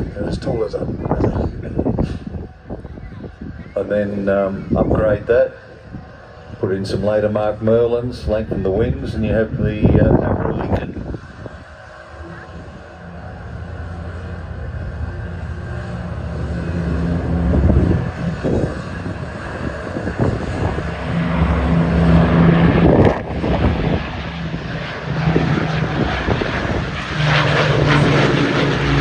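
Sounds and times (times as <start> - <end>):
piston aircraft engines droning: 0.0 - 29.0.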